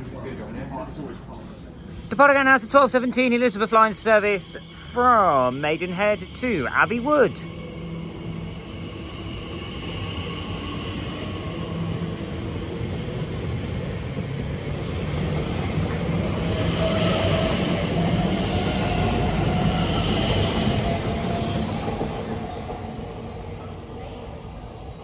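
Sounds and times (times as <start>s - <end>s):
electric train pulling away: 3.2s - 25.0s
train whine rising in pitch: 3.7s - 24.0s.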